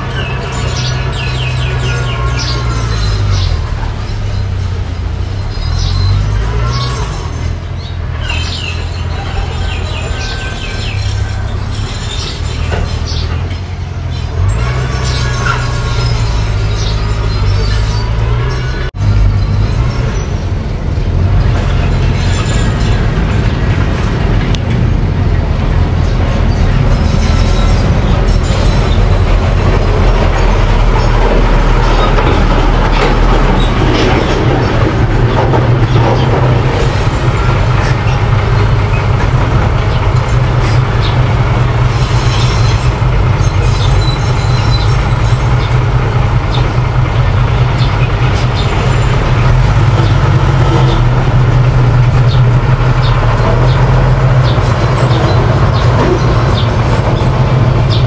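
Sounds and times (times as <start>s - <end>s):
bulldozer diesel engine running: 0.0s - 58.0s
steel tracks clanking: 0.0s - 58.0s.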